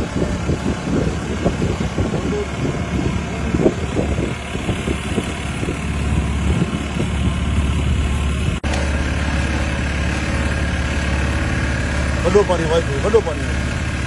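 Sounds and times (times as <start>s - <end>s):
motorboat engine rumbling: 0.0s - 14.0s.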